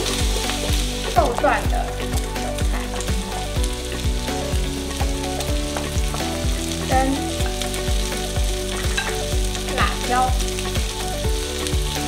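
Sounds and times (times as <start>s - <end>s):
background music: 0.0s - 12.0s
meat sizzling in a wok: 0.0s - 12.0s.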